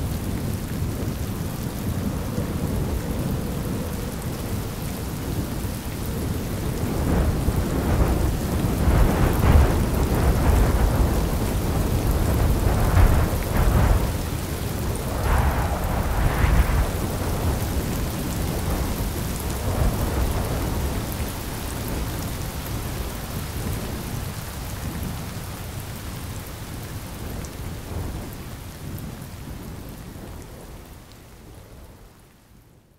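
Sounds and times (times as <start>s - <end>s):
steady rain: 0.0s - 32.9s.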